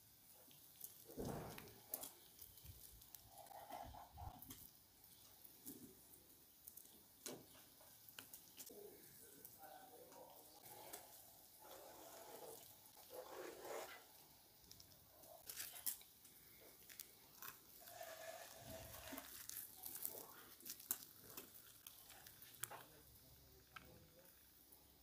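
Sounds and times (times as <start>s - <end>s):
nitrile gloves crinkling: 0.2s - 25.0s.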